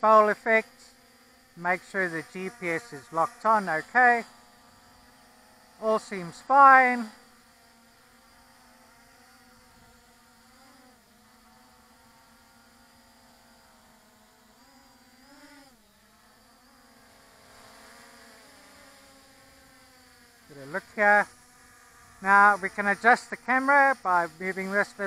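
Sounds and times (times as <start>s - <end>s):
quadcopter buzzing: 0.0s - 25.0s.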